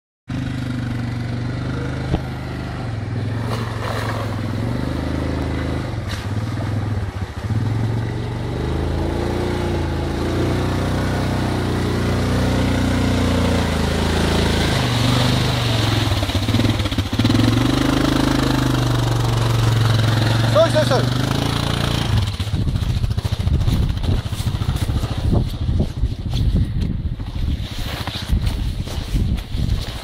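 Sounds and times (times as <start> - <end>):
atv engine running: 0.3 - 26.3.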